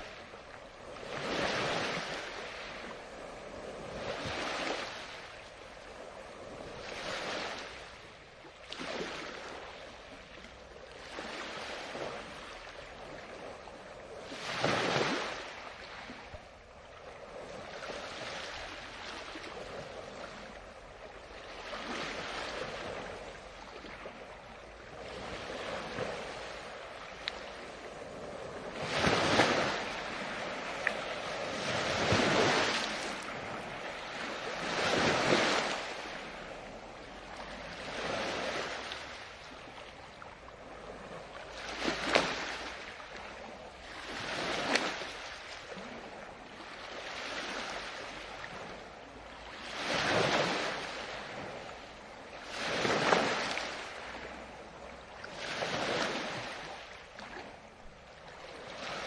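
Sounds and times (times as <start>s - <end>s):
ocean waves washing in: 0.0s - 59.0s.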